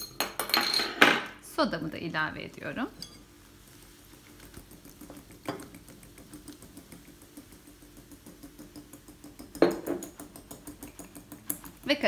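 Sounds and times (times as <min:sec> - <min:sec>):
fizzing bubbles crackling: 0:02.0 - 0:12.0.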